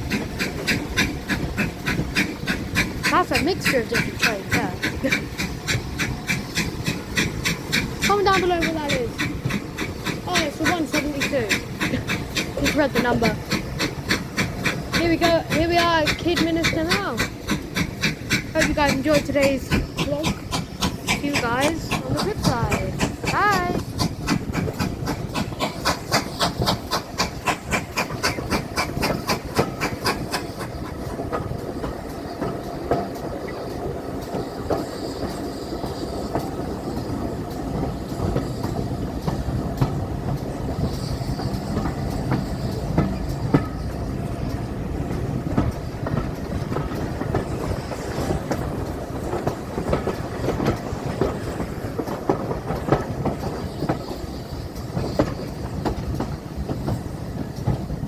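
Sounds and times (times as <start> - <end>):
train running on rails: 0.0 - 58.0
train wheel clicks: 0.0 - 58.0.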